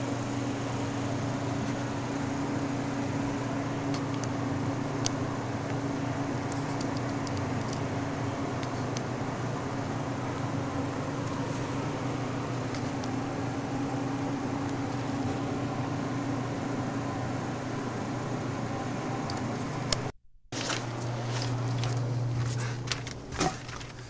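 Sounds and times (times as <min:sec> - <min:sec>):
mechanical hum and hiss: 0:00.0 - 0:24.0.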